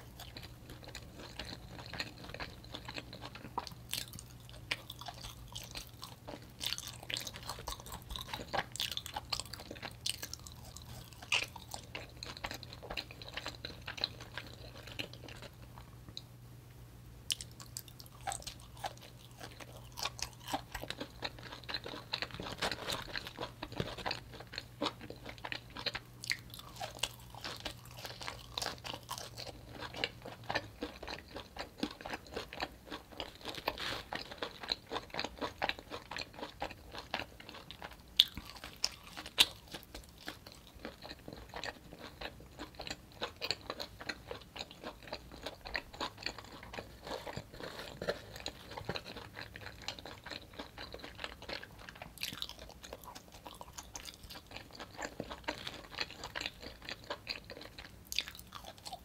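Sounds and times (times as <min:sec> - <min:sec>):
crunching and chewing vegetables: 0:00.0 - 0:16.4, 0:17.3 - 0:59.0.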